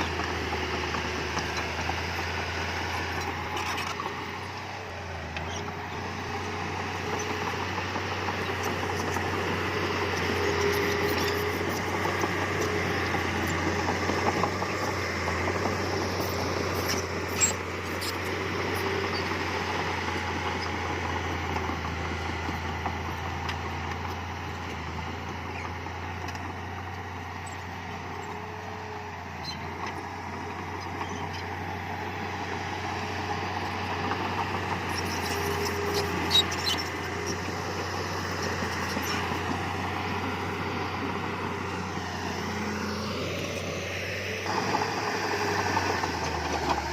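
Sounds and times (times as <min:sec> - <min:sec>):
diesel earthmoving machinery running: 0:00.0 - 0:46.9.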